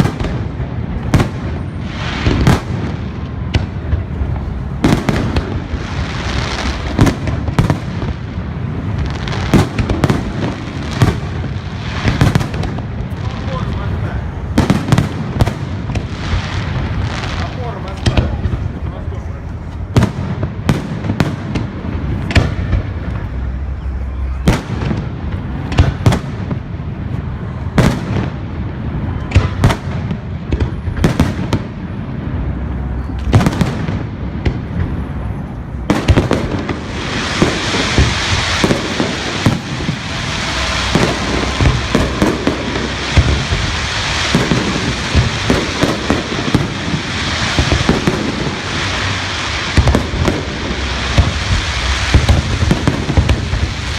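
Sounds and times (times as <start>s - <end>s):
fireworks bangs: 0.0s - 53.9s
fireworks crackling: 0.0s - 53.9s.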